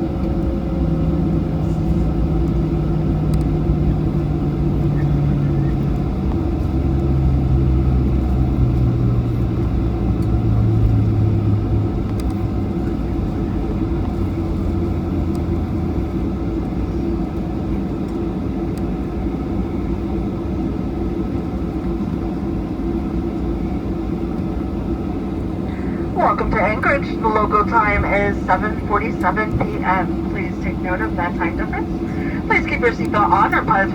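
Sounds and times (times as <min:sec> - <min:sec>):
jet engines in cabin: 0:00.0 - 0:33.9.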